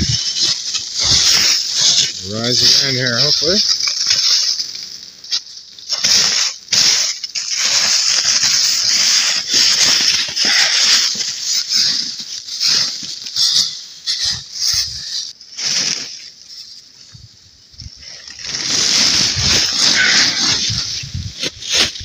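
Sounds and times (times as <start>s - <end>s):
snow crunching: 0.0s - 4.0s, 5.9s - 17.2s, 17.8s - 22.0s
plastic tarp rustling: 0.0s - 4.8s, 5.9s - 17.2s, 17.8s - 22.0s.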